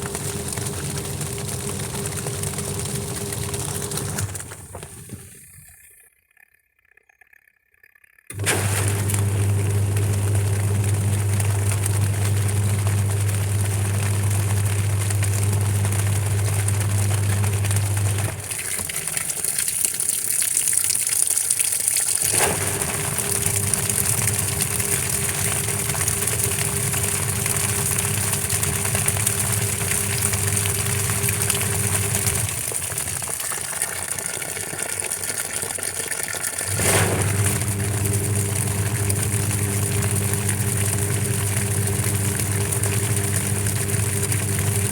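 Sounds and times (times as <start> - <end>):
washing machine motor hum: 0.0 - 6.0, 8.3 - 44.9.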